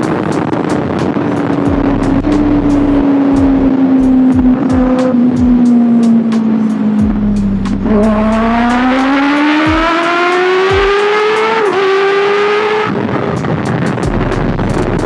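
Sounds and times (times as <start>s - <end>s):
motorcycle accelerating: 0.0s - 15.0s
wind rush on microphone: 0.0s - 15.0s.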